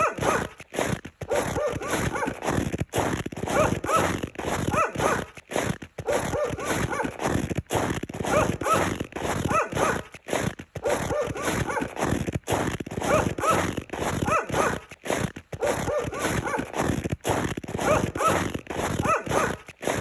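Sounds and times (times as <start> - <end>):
footsteps crunching through snow: 0.0 - 20.0.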